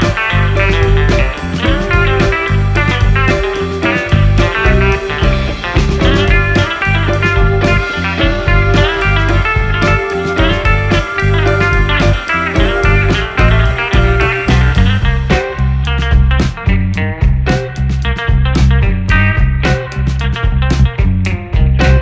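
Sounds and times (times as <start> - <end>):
blues-rock music with electric guitar: 0.0 - 22.0.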